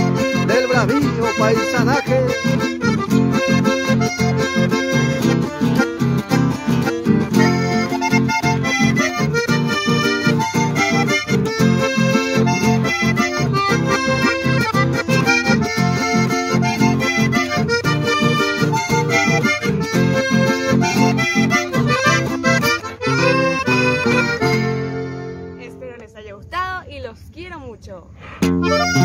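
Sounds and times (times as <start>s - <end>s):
button accordion playing: 0.0s - 26.2s, 28.4s - 29.0s.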